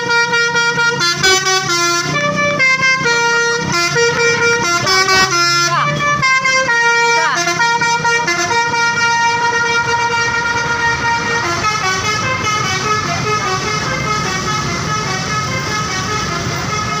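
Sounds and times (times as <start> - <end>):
low engine rumble: 0.0 - 17.0
musical bus horn playing a tune: 0.0 - 17.0.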